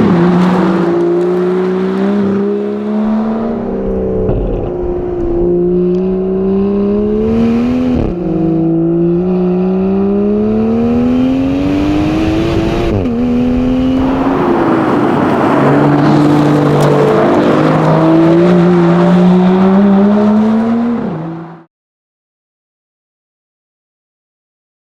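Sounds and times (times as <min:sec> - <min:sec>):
car engine accelerating through gears: 0:00.0 - 0:21.7.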